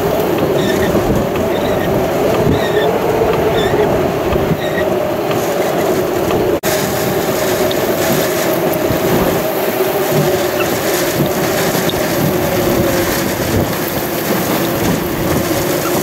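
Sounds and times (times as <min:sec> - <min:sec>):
strong wind rushing: 0:00.0 - 0:16.0.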